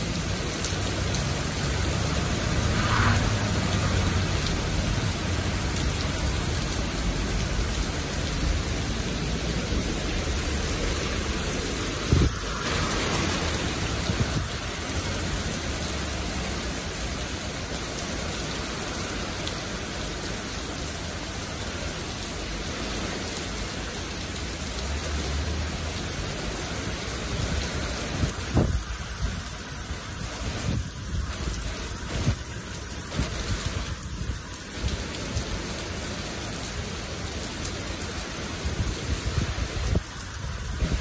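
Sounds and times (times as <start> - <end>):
heavy rain on street and cars: 0.0 - 41.0.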